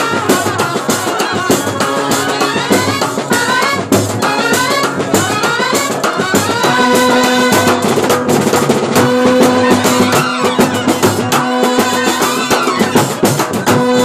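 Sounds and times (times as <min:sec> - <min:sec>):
brass band playing: 0:00.0 - 0:14.0
dense drumming: 0:00.0 - 0:14.0.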